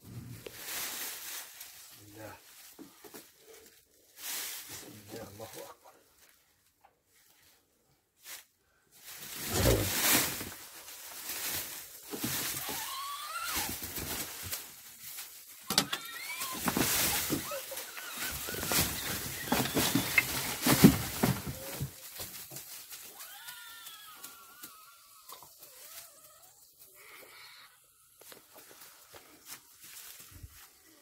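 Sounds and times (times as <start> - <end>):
straw rustling and crunching: 0.3 - 6.5, 8.2 - 27.0, 28.2 - 31.0.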